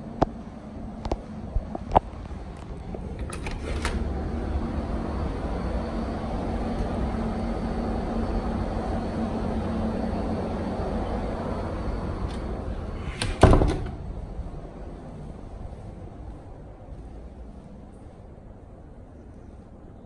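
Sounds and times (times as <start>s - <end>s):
low machine hum and rumble: 0.0s - 20.0s.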